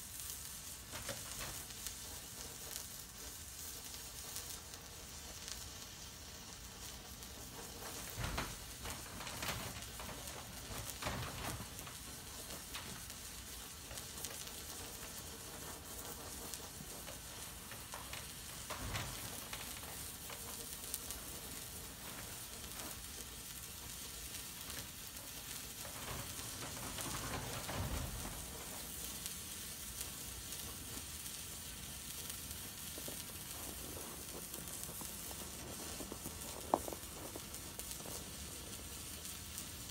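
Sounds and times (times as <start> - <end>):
flare burning with sizzling hiss: 0.0 - 39.9.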